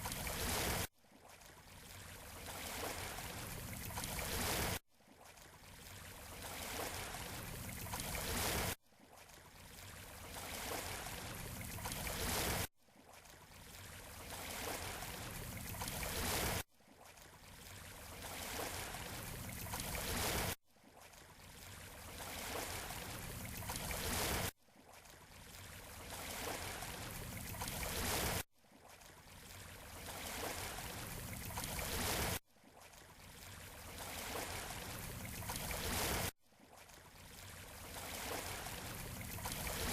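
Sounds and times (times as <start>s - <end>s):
waves on beach: 0.0s - 39.9s.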